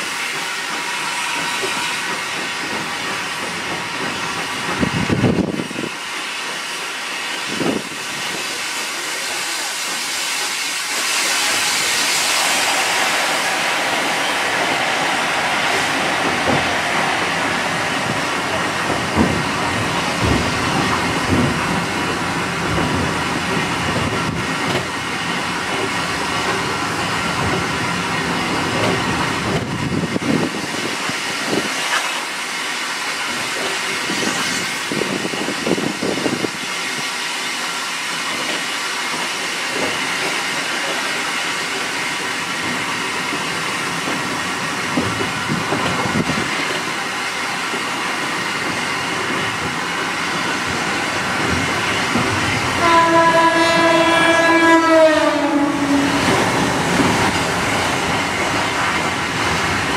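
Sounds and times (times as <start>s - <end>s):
train wheels clicking and rumbling: 0.0s - 59.9s.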